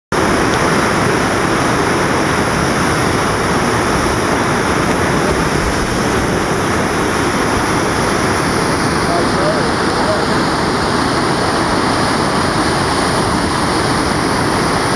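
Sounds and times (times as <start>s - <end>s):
river floodwater rushing: 0.1s - 14.9s.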